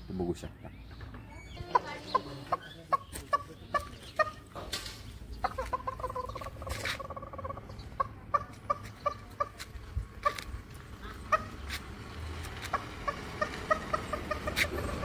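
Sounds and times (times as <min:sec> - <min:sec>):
turkey clucking: 0:01.6 - 0:11.9, 0:12.5 - 0:15.0.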